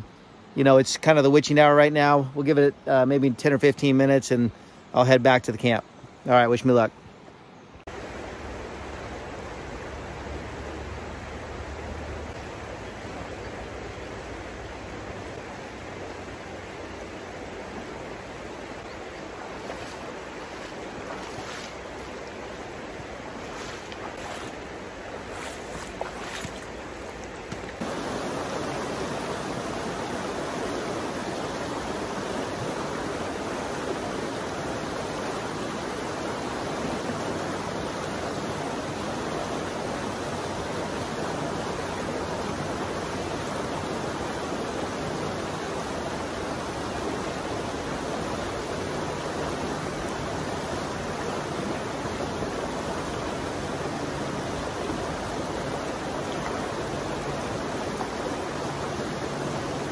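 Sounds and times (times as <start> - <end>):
river water rushing: 5.7 - 59.9.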